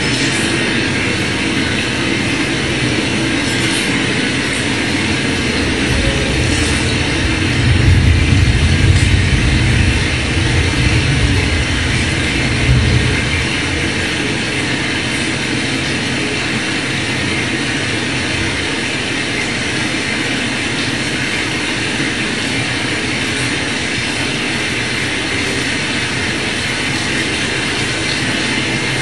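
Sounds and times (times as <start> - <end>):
loud steady rumbling: 0.0 - 29.0.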